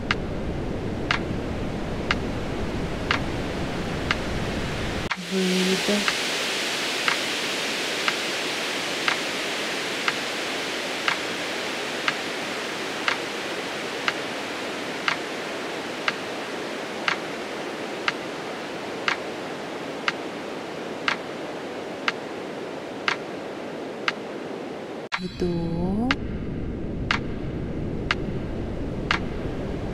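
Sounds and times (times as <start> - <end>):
steady hiss: 0.0 - 25.6.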